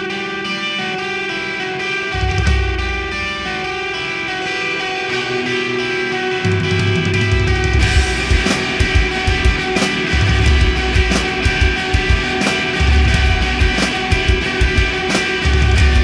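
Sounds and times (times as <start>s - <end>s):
rock band playing: 2.2s - 16.0s.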